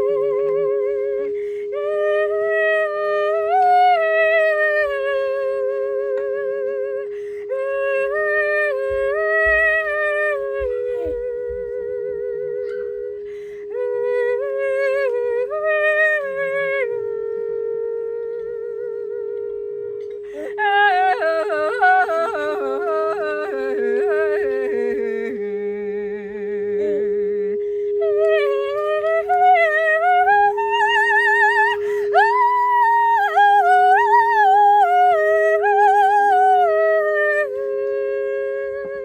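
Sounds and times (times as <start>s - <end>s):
steady drone tone: 0.0s - 39.0s
wordless singing with vibrato: 0.0s - 39.0s.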